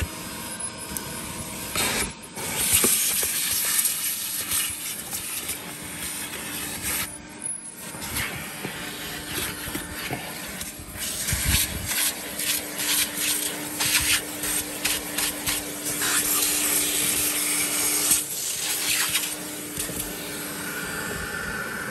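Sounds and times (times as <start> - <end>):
vacuum cleaner motor hum: 0.0 - 21.9
vacuum nozzle sucking air: 1.5 - 7.1, 7.8 - 21.9.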